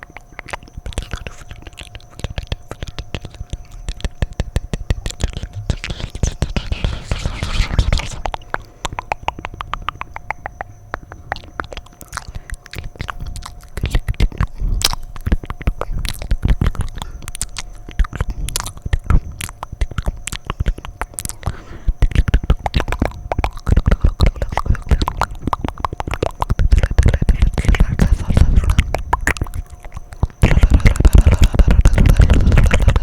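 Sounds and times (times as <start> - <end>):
tongue and lip clicks: 0.0 - 33.0.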